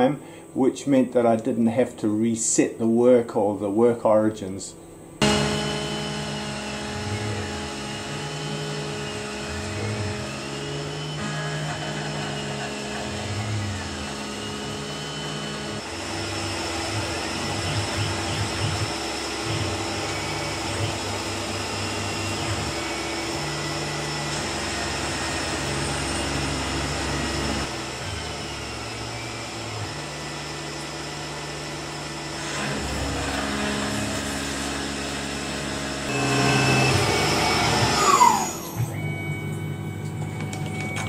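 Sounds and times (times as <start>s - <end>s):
milling machine cutting metal: 5.2s - 39.0s
spindle winding down whine: 5.2s - 41.0s.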